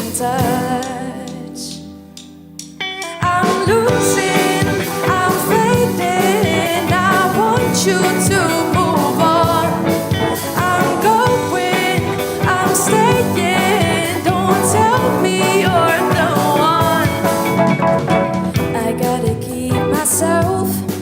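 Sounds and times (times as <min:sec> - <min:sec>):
pop-rock band playing: 0:00.0 - 0:21.0
drums beating: 0:02.6 - 0:21.0
bending melodic lead line: 0:02.8 - 0:21.0.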